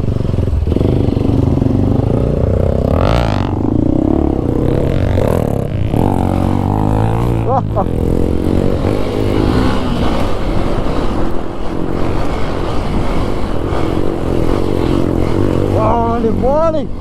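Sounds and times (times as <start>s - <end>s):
dense rushing noise: 0.0s - 17.0s
motorcycle engine running: 0.0s - 17.0s.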